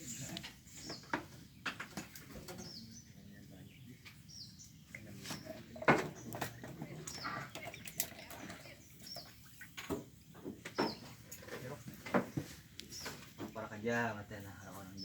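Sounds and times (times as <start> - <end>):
small bird chirping: 0.0 - 9.8, 10.6 - 11.4, 12.2 - 15.0.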